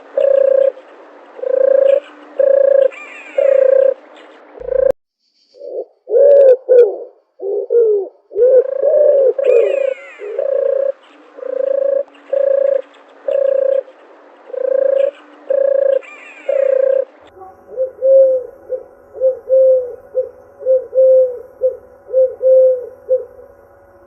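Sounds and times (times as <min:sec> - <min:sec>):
dove cooing: 0:00.0 - 0:05.0, 0:05.6 - 0:23.6
higher falling bird call: 0:00.0 - 0:06.9, 0:07.8 - 0:23.5.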